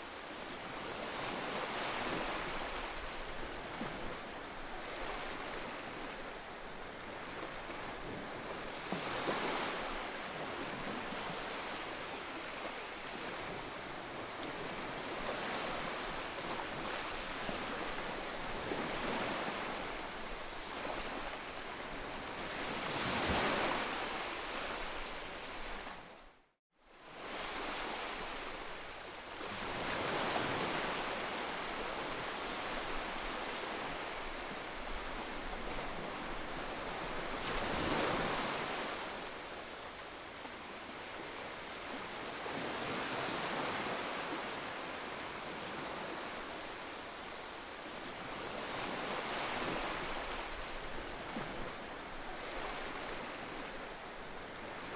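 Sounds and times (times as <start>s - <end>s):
waves washing onto shore: 0.0s - 26.3s, 27.0s - 54.9s.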